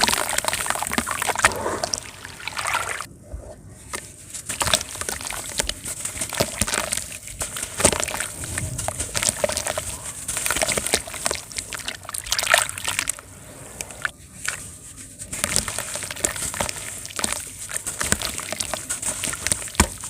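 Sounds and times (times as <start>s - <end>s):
water sloshing and splashing: 0.0s - 3.2s, 4.5s - 14.6s, 15.3s - 20.0s.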